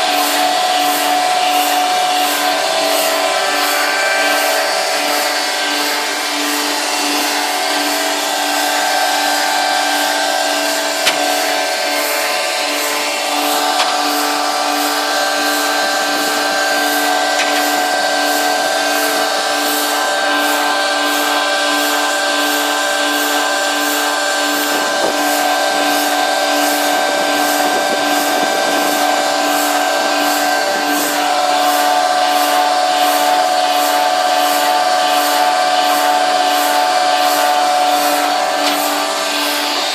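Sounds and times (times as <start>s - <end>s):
concrete pump whining: 0.0s - 39.9s.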